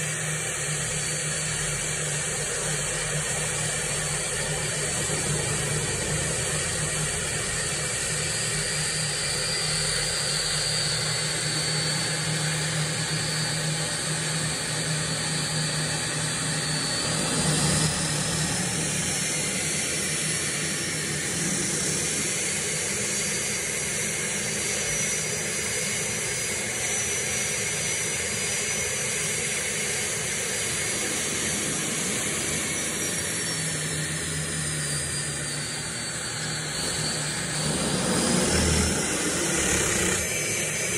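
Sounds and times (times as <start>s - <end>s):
high turbine whine: 0.0s - 40.9s
turbine engine hissing rush: 0.0s - 40.9s.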